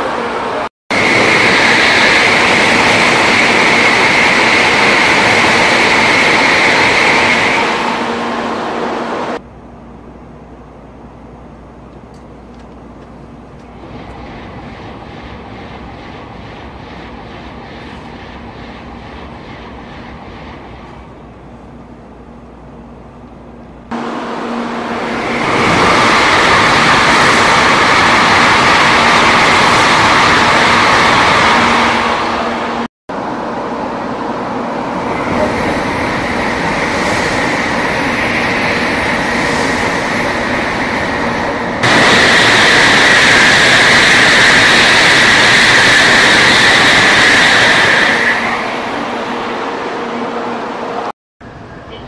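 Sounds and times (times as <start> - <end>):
high-speed train passing: 0.0 - 52.0.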